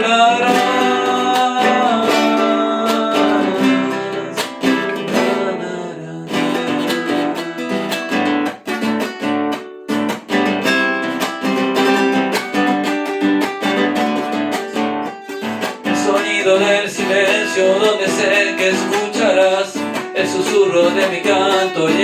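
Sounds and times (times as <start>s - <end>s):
acoustic guitar strummed and picked: 0.0s - 22.0s.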